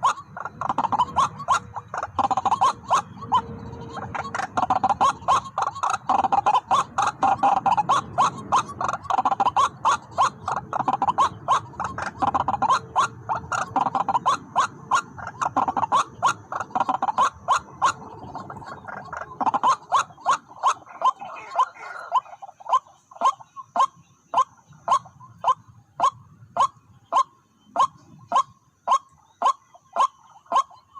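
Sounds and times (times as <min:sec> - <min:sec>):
bird calling harsh repeated notes: 0:00.0 - 0:30.9.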